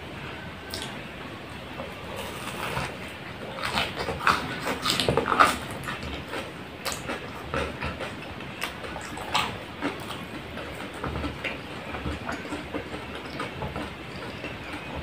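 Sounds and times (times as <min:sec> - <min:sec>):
wet chewing mouth sounds: 0:02.2 - 0:15.0.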